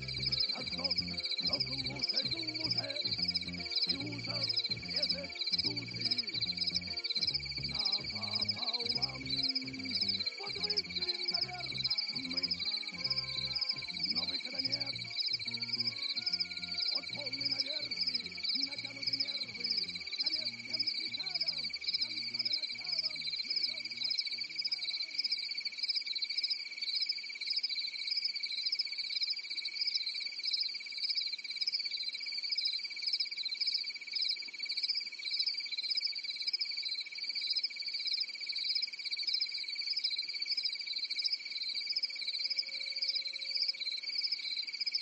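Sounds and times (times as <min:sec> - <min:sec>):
continuous high insect trill: 0:00.0 - 0:45.0
higher pulsing insect song: 0:00.0 - 0:45.0.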